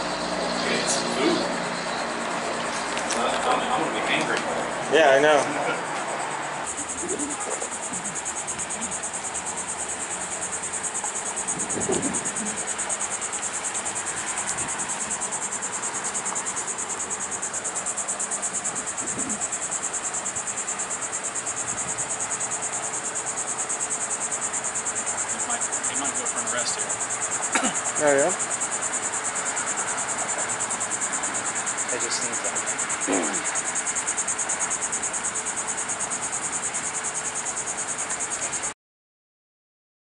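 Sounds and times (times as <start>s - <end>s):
insects trilling: 0.0s - 38.8s.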